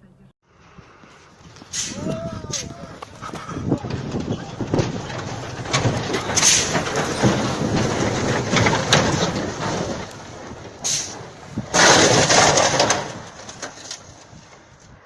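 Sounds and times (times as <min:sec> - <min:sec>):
vehicle rumbling on the move: 0:00.0 - 0:15.0.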